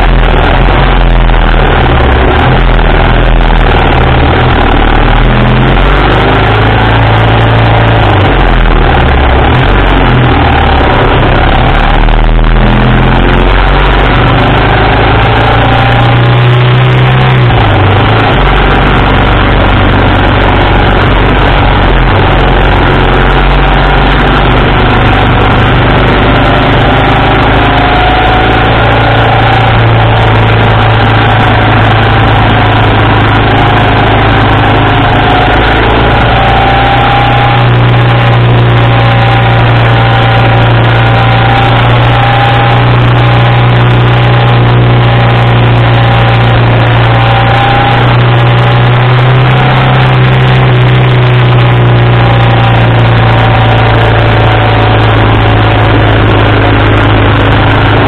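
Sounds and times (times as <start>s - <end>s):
motorcycle engine running: 0.0s - 58.0s
wind on microphone: 0.0s - 58.0s.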